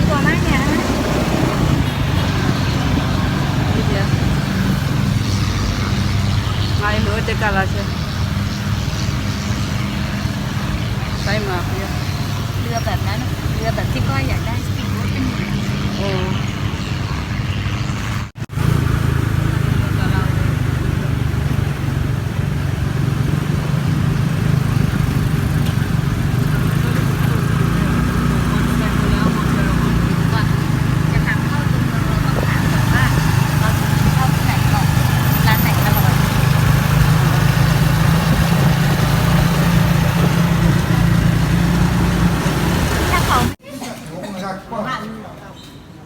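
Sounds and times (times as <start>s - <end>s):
vehicle engine droning: 0.0s - 43.6s.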